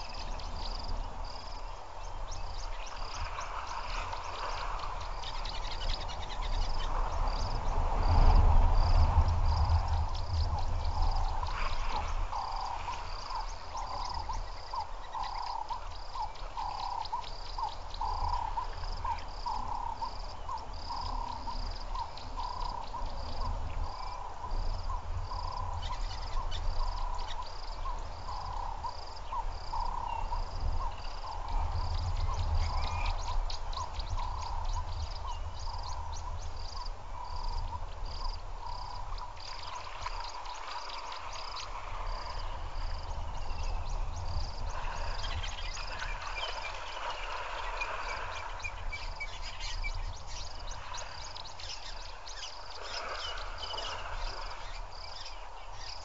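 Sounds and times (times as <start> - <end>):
frogs calling: 0.0 - 56.0.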